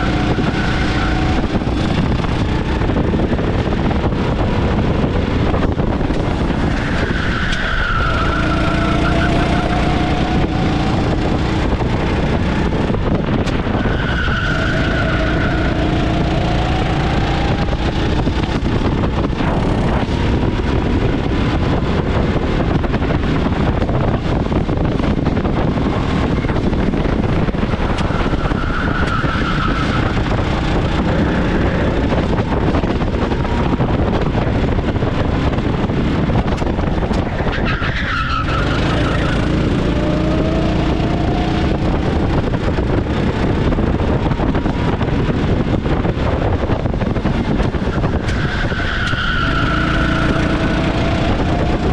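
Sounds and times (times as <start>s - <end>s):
go-kart engine accelerating: 0.0s - 51.9s.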